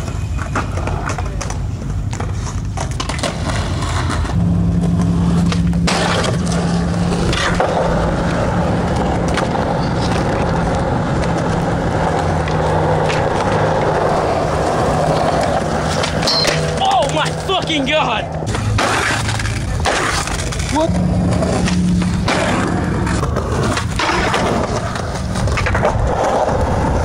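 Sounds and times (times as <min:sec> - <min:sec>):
skateboard clacks: 0:00.0 - 0:27.0
skateboard wheels rolling on concrete: 0:00.0 - 0:27.0.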